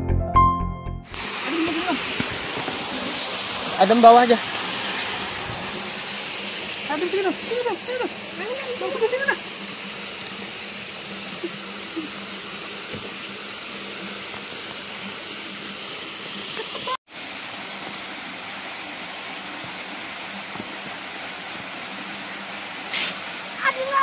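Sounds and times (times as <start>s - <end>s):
steady hiss: 1.1s - 24.0s.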